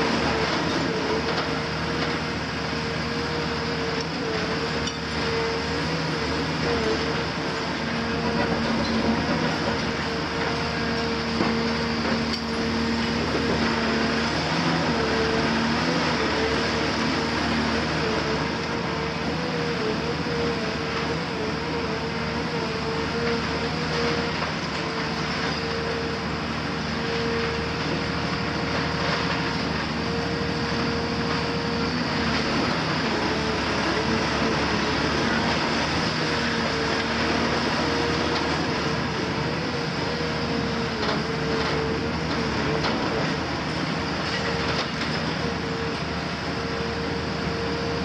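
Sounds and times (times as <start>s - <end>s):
excavator diesel engine running hard: 0.0s - 48.0s.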